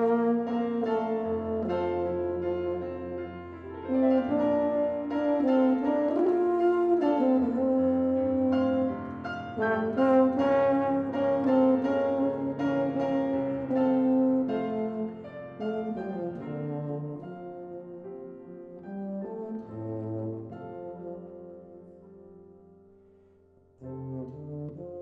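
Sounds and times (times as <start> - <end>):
piano chords: 0.0 - 25.0
tuba melody: 0.0 - 25.0.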